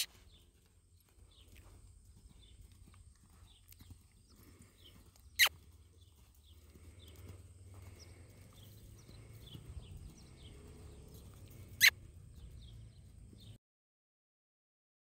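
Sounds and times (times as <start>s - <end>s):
hoofbeats in sand: 0.0s - 13.6s.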